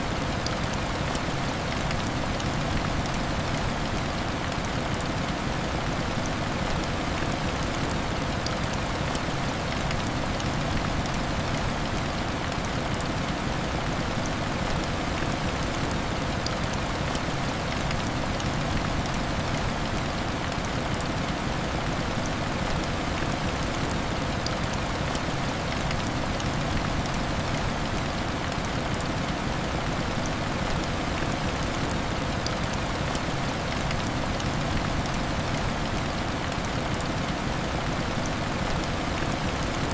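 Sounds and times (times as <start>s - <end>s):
heavy rain against a window: 0.0s - 39.9s.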